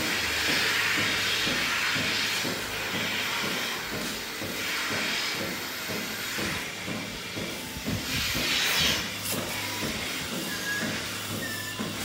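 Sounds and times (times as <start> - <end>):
vacuum and air hissing: 0.0 - 12.0.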